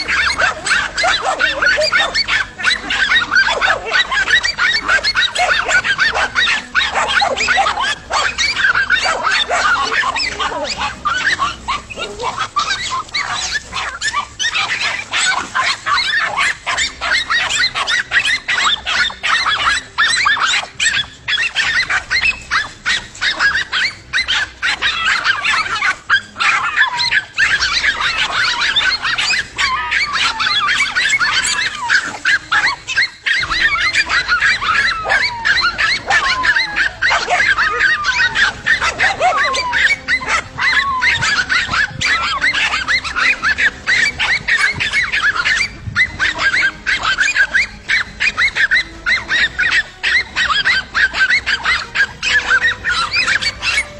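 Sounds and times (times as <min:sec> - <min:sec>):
dog yelps: 0:00.0 - 0:53.9
dogs barking: 0:00.0 - 0:53.9.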